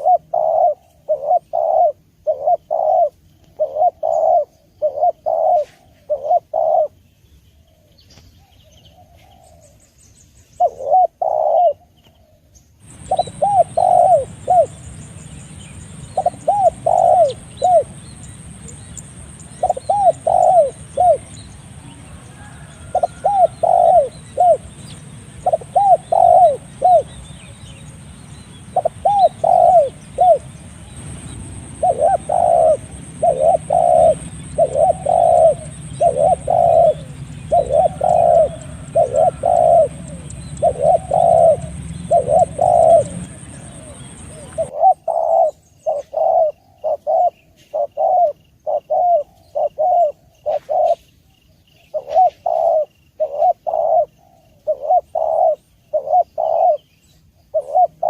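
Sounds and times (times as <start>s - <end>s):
dove cooing: 0.0s - 7.0s, 7.7s - 9.8s, 10.6s - 51.1s, 51.8s - 58.0s.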